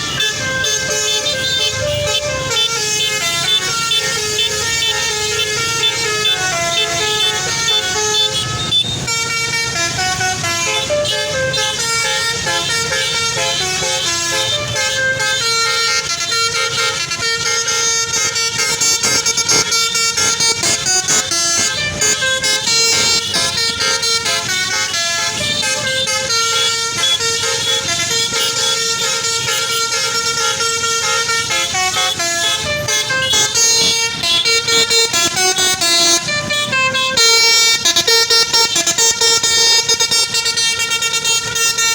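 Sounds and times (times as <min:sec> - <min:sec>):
bus melodic horn playing tune: 0:00.0 - 0:41.9.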